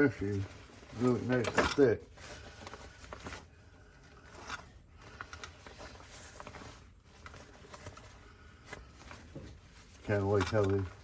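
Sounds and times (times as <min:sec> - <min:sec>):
fabric tool bag rustling: 0:00.0 - 0:11.0.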